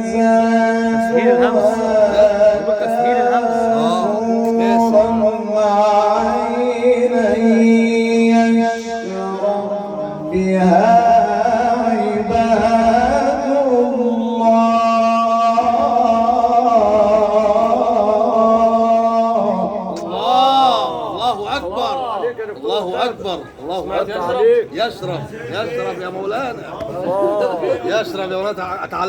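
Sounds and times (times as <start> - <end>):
man chanting melodically: 0.0 - 29.0.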